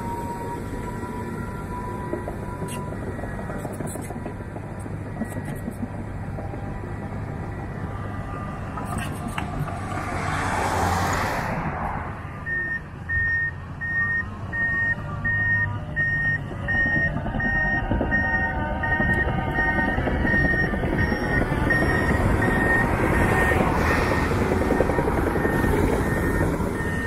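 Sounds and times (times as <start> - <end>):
reversing alarm beeping: 0.0 - 9.7, 12.4 - 27.0
diesel engine rumble: 0.0 - 27.0.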